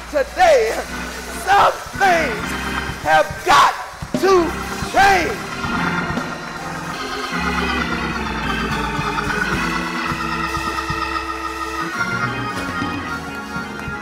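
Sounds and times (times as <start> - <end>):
organ playing chords: 0.0 - 14.0.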